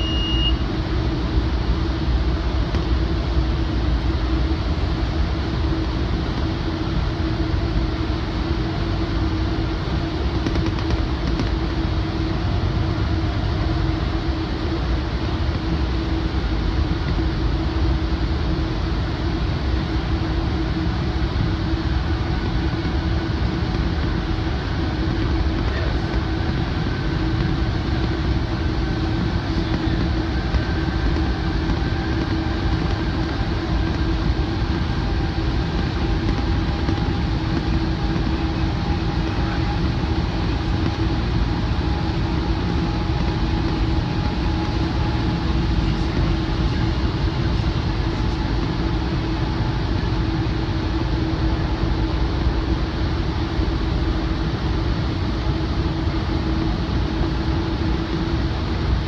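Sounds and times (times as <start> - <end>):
faint whine drifting in pitch: 0.0 - 59.0
rumble of wheels on rail: 0.0 - 59.0
steady hum: 0.0 - 59.0.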